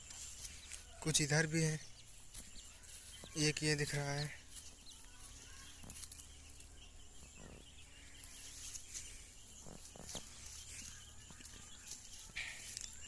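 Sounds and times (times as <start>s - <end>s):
young chickens peeping: 0.0s - 13.0s.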